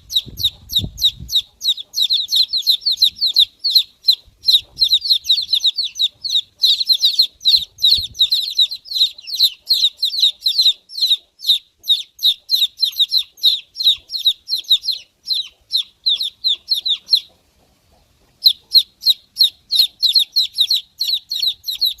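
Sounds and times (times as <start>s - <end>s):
baby chicks peeping: 0.0s - 22.0s.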